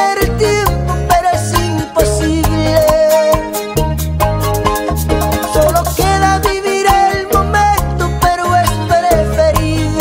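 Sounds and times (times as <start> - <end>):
percussion strokes: 0.0 - 9.7
melodic lead line: 0.0 - 10.0
steady bass: 0.0 - 10.0.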